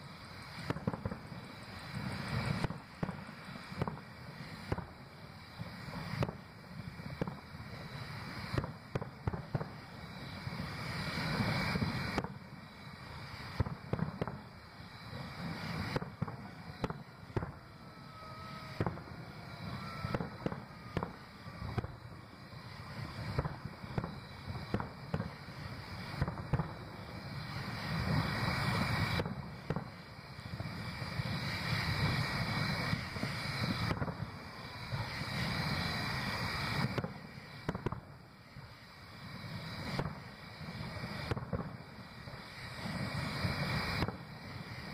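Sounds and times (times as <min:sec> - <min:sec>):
fireworks booming: 0:00.0 - 0:44.9.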